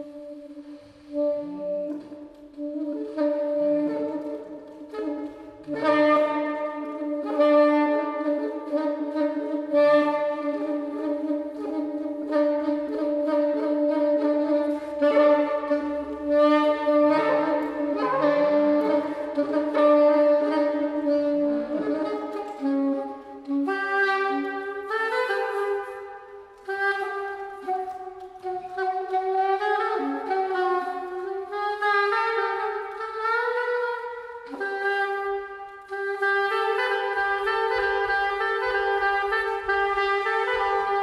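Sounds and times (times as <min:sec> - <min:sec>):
soprano saxophone long notes: 0:00.0 - 0:41.0.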